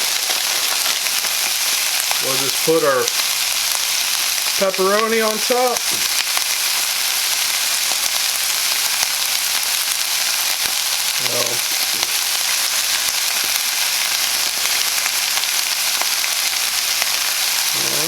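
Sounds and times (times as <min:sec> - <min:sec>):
chicken sizzling in a frying pan: 0:00.0 - 0:18.0.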